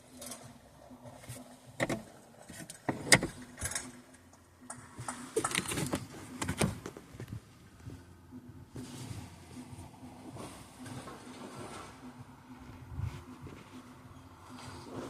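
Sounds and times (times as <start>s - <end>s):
car interior parts rattling: 0.0s - 15.0s.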